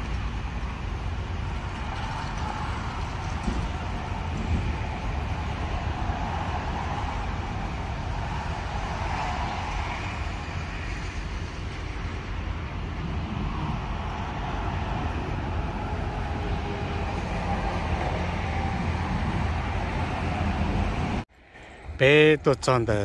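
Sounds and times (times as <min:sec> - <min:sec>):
highway traffic rumble: 0:00.0 - 0:23.0.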